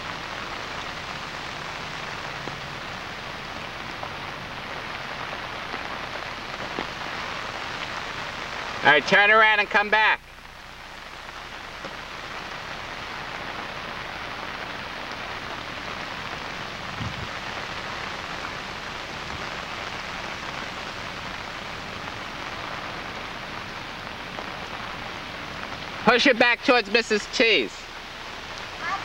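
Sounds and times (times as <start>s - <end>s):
rain falling on water: 0.0s - 29.0s.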